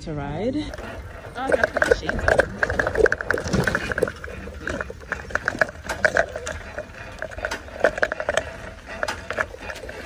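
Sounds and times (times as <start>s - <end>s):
bicycle rattling on bumpy track: 0.5s - 10.0s.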